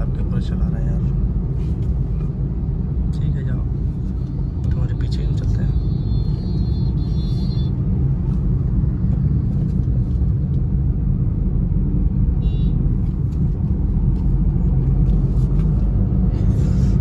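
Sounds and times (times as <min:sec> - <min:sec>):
car interior road rumble: 0:00.0 - 0:17.0.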